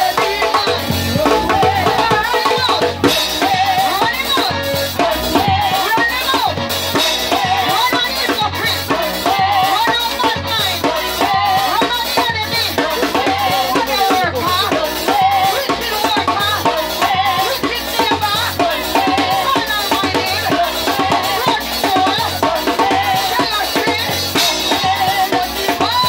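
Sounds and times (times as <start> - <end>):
drum kit beat: 0.0 - 26.0
live band music: 0.0 - 26.0.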